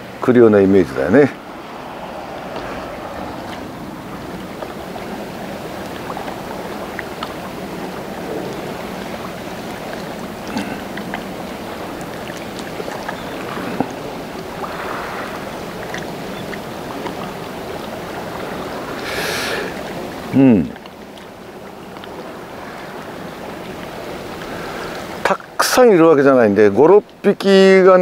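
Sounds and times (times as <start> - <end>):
sea water lapping on stone: 0.0 - 28.0.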